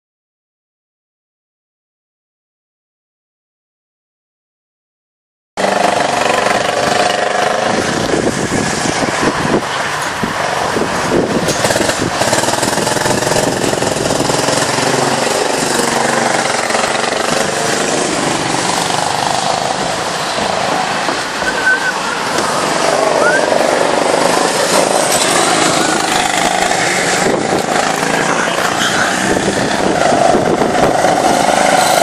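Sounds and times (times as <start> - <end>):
go-kart engines buzzing: 5.6 - 32.0.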